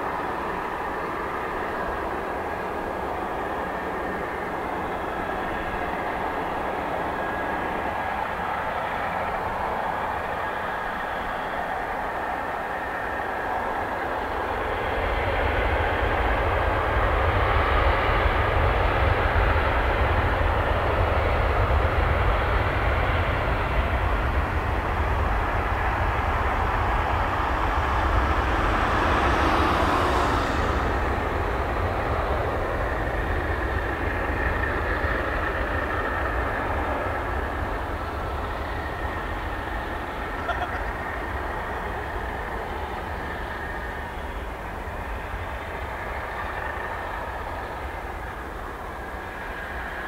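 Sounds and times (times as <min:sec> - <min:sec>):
jet engines at takeoff power: 0:00.0 - 0:50.0.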